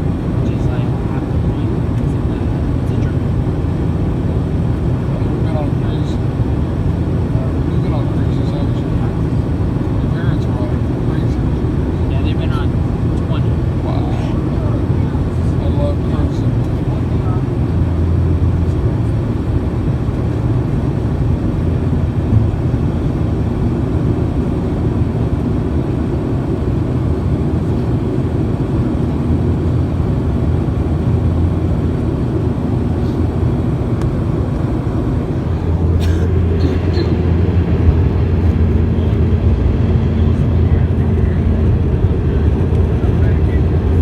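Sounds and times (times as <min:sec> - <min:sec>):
jet engine and airflow rumble: 0:00.0 - 0:44.0.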